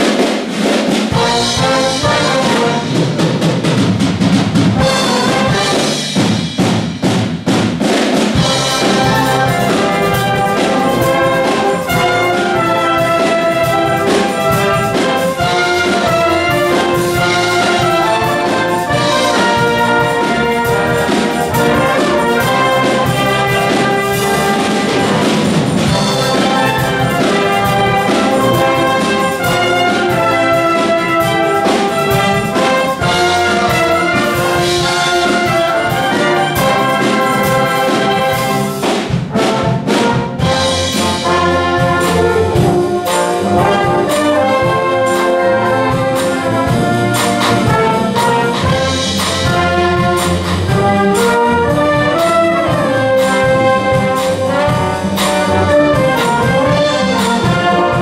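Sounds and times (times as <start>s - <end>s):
trumpets and trombones: 0.0s - 6.7s, 8.1s - 58.0s
drum kit beat: 0.0s - 58.0s
wind band playing big band music: 0.0s - 58.0s.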